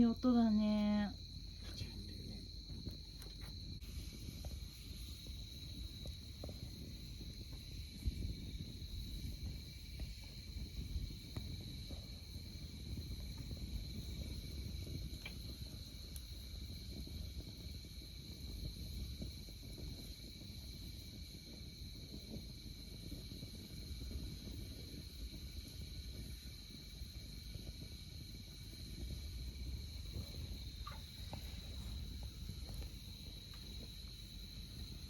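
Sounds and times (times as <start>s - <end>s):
campfire crackling: 0.0s - 35.0s
crickets chirring: 0.0s - 35.0s.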